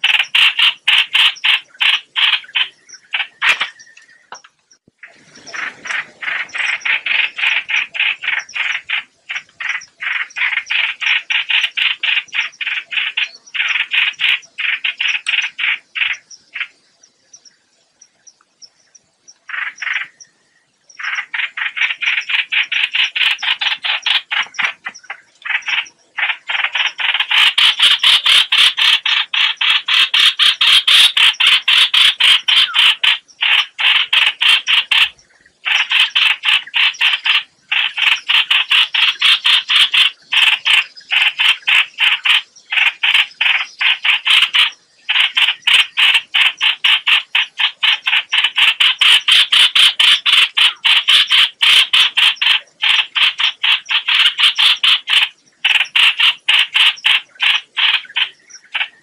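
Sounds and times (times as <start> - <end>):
bird distress calls: 0.0 - 16.8, 19.5 - 20.4, 21.0 - 59.0.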